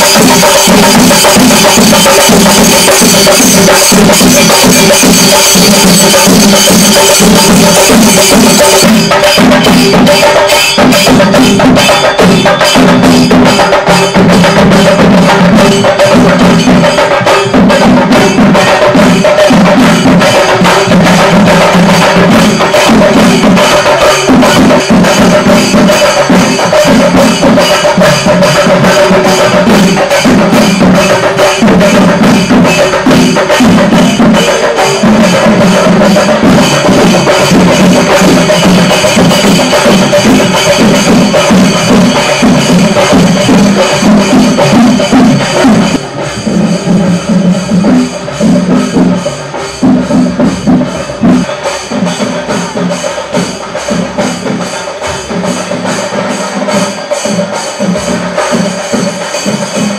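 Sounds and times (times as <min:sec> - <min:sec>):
rapid dense drumming: 0:00.0 - 0:59.9.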